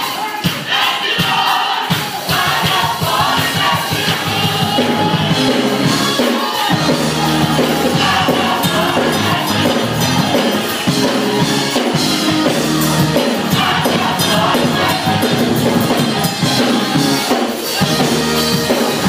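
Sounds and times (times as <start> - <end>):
drums hitting fast: 0.0 - 19.0
gospel choir singing: 0.0 - 19.0
live band playing: 0.0 - 19.0.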